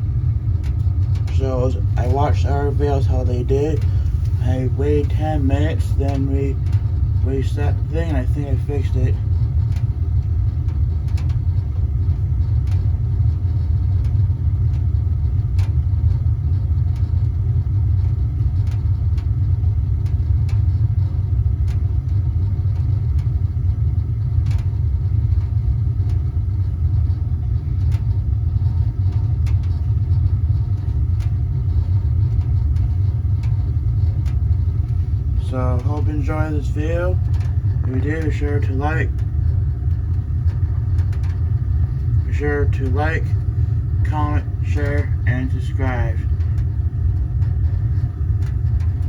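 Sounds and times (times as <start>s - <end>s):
gas burner rumbling: 0.0s - 49.0s.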